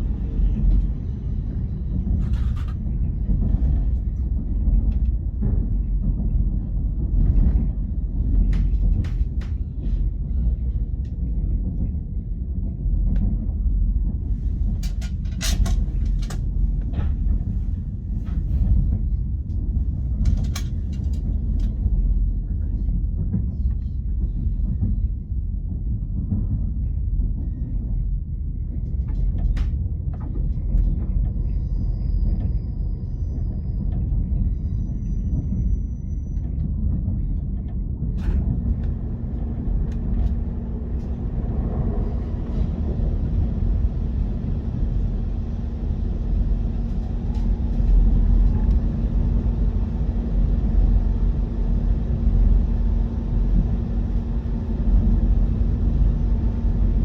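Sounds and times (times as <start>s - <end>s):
electric train rumbling: 0.0s - 57.0s
steady low hum: 0.0s - 57.0s.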